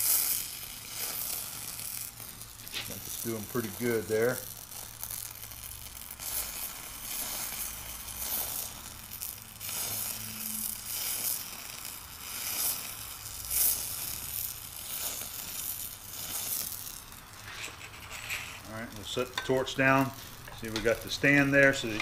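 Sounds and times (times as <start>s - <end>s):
metal powder crackling: 0.0s - 22.0s
torch flame hissing: 0.0s - 22.0s.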